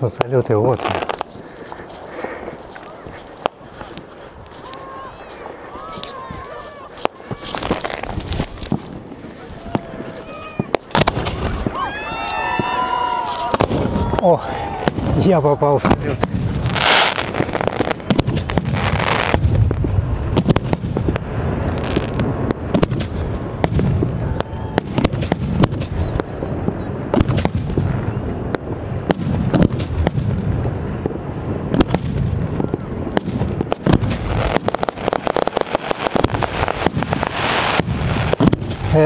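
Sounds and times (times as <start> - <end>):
fireworks bangs and crackling: 0.0 - 39.0.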